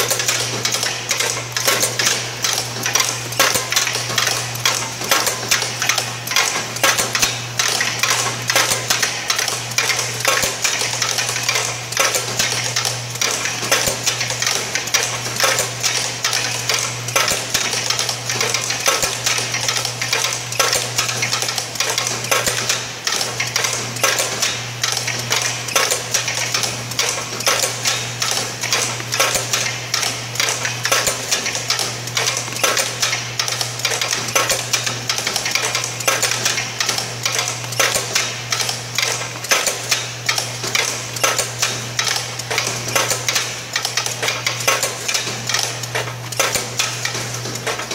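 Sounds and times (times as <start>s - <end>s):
machine rhythmic clatter: 0.0s - 47.9s.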